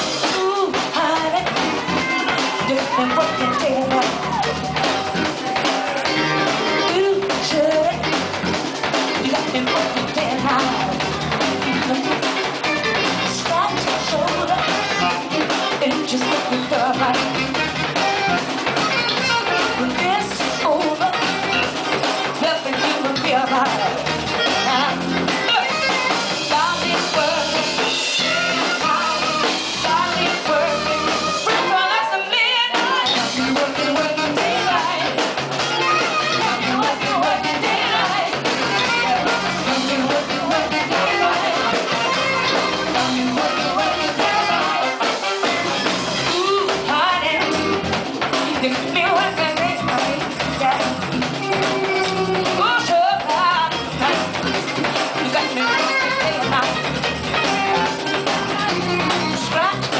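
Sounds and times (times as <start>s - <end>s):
drum kit: 0.0s - 59.9s
electric guitars: 0.0s - 59.9s
live band playing: 0.0s - 59.9s
woman singing: 0.1s - 4.9s, 5.6s - 8.2s, 9.1s - 12.4s, 13.2s - 17.4s, 19.4s - 21.6s, 22.2s - 45.4s, 46.2s - 56.9s, 57.7s - 59.9s.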